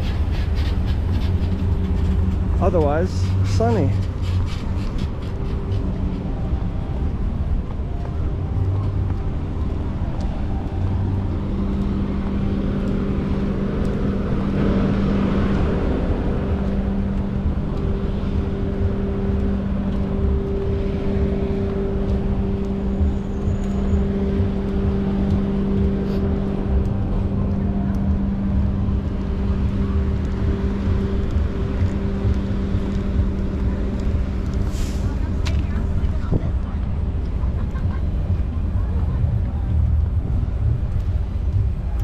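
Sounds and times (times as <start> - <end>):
low rumble: 0.0 - 42.0.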